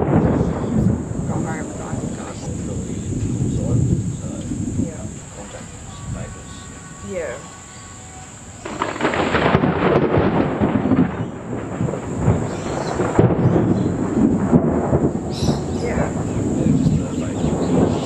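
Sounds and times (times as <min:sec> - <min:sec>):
thunder rolling: 0:00.0 - 0:18.0.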